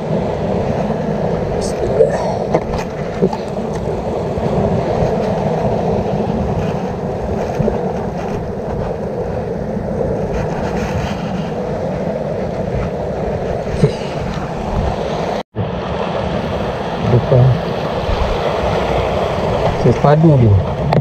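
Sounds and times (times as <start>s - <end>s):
sea surf on rocks: 0.0s - 21.0s
wind: 0.0s - 21.0s.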